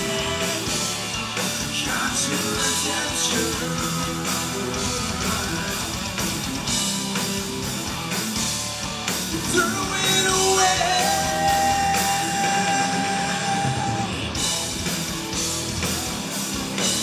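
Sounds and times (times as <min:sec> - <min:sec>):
distorted electric guitars: 0:00.0 - 0:17.0
rock drums: 0:00.0 - 0:17.0.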